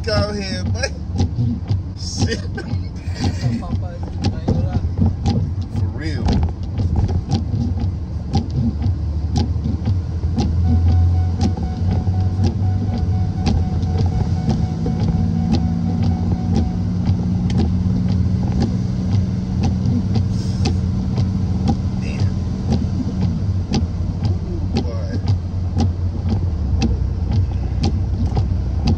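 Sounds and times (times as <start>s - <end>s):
road noise: 0.0s - 28.9s
truck engine drone: 0.0s - 28.9s.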